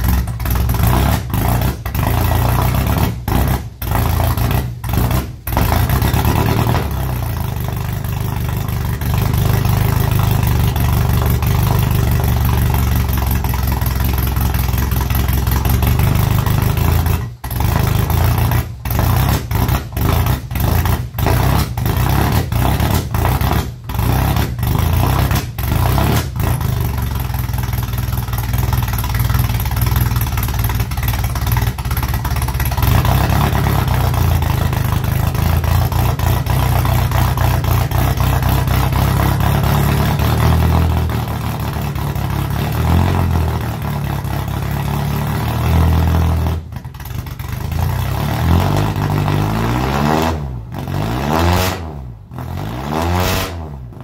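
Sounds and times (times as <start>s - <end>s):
car engine through straight-pipe exhaust: 0.0s - 54.0s.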